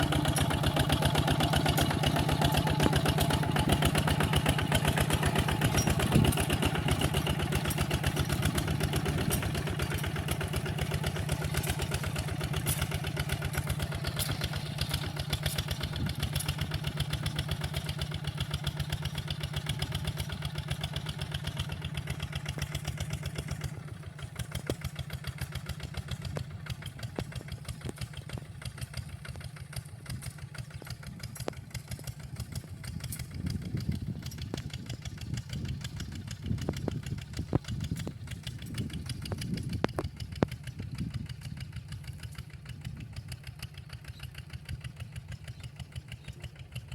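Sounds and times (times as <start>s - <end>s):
walking tractor engine puttering: 0.0s - 46.9s.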